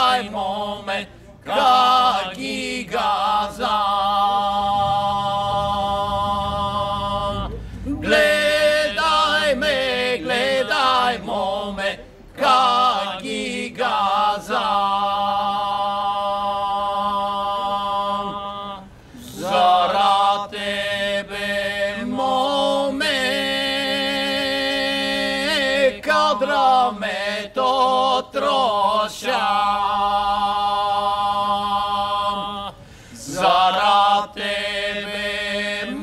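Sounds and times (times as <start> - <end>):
men singing unaccompanied folk song: 0.0 - 36.0.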